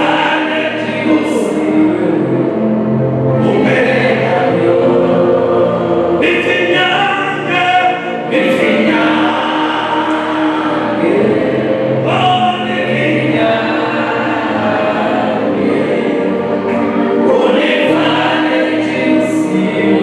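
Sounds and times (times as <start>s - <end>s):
choir singing gospel song: 0.0s - 20.0s.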